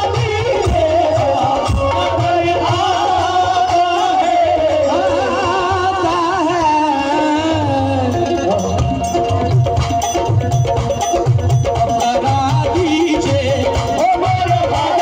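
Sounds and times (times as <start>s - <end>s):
drum beats: 0.0s - 15.0s
harmonium: 0.0s - 15.0s.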